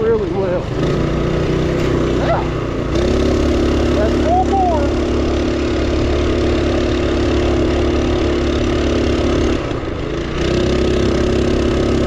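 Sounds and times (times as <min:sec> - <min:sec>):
small engine running under throttle: 0:00.0 - 0:12.0.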